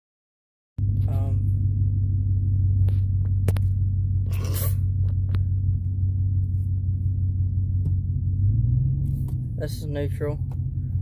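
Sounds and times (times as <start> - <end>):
truck engine idling: 0.8 - 11.0.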